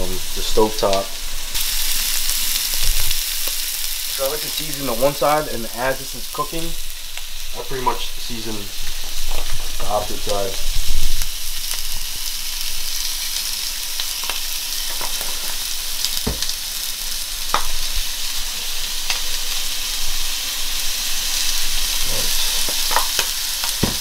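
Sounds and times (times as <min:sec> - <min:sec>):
chicken sizzling in frying pan: 0:00.0 - 0:24.0.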